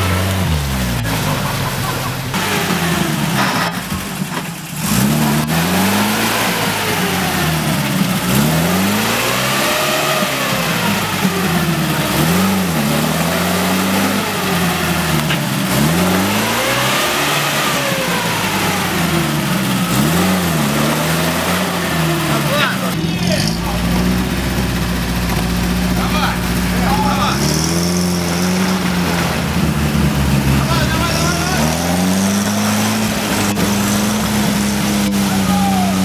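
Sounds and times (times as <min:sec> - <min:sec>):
engine revving under load: 0:00.0 - 0:36.0.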